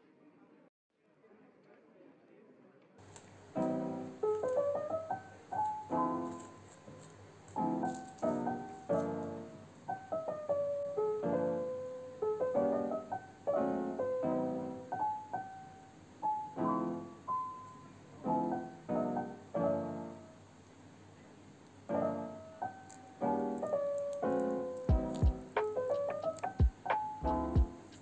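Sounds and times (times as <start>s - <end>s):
gentle piano music: 3.4s - 20.7s, 21.5s - 28.0s.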